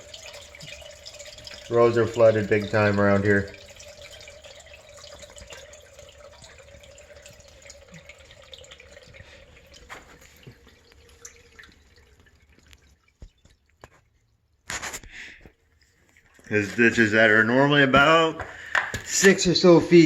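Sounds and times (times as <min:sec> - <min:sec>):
water trickling and dripping: 0:00.0 - 0:20.0.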